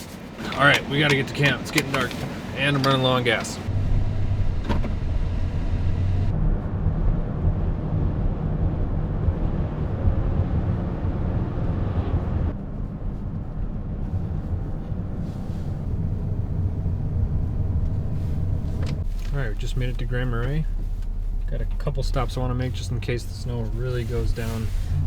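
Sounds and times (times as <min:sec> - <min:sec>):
van engine and road noise: 0:00.0 - 0:25.0.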